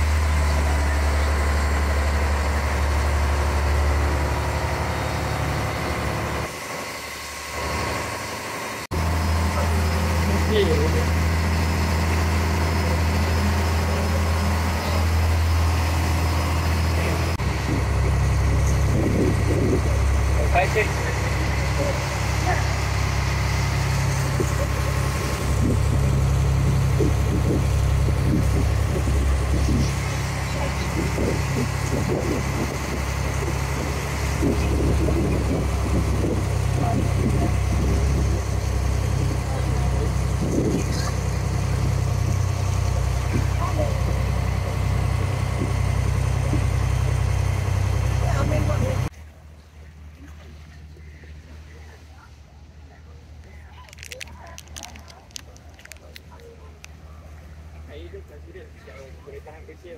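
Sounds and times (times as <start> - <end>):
boat engine droning: 0.0 - 59.9
wind: 0.0 - 59.9.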